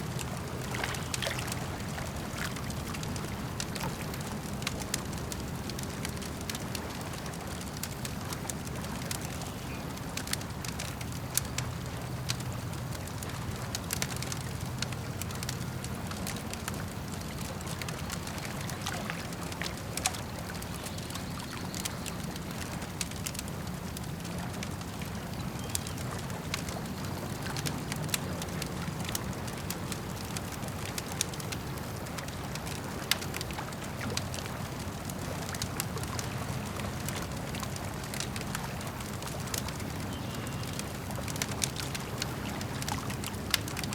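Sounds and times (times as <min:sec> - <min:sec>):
campfire crackling and popping: 0:00.0 - 0:43.9
lake water lapping: 0:00.0 - 0:43.9.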